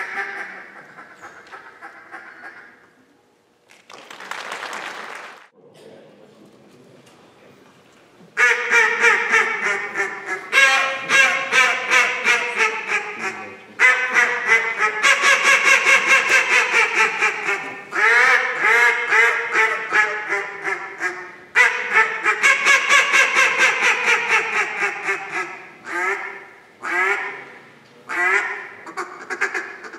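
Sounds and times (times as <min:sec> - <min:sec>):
duck call quacking: 0:00.0 - 0:02.8, 0:08.4 - 0:29.9.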